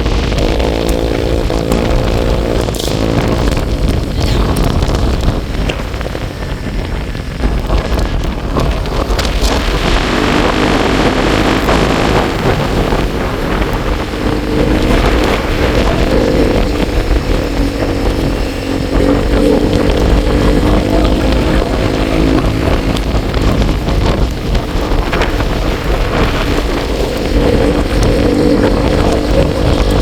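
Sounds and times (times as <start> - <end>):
vehicle engine running: 0.0 - 30.0
wind rush on microphone: 0.0 - 30.0.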